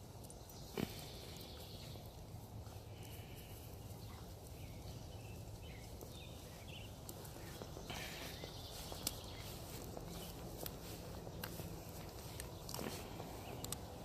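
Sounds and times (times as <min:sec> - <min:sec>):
puppies tapping and scuffling: 0:00.1 - 0:14.0.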